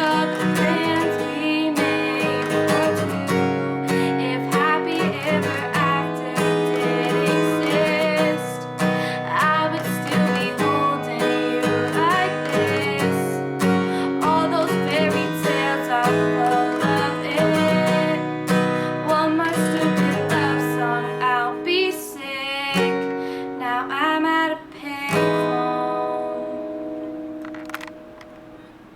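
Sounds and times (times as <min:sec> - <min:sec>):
woman singing: 0:00.0 - 0:27.1
acoustic guitar strumming: 0:00.0 - 0:28.9.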